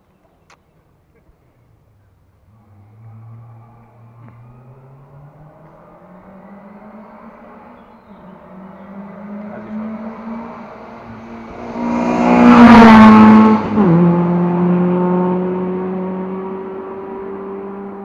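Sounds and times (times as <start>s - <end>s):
rally car engine passing by: 2.5s - 18.0s.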